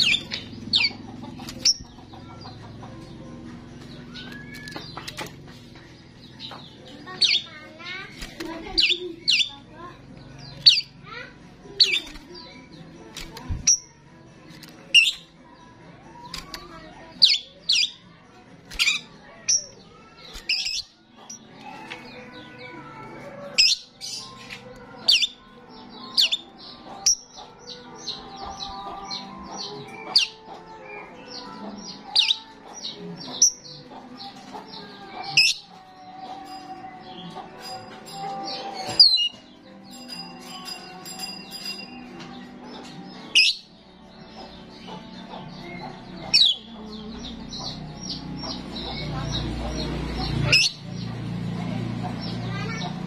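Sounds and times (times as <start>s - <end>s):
starling chattering notes: 0.0s - 53.0s.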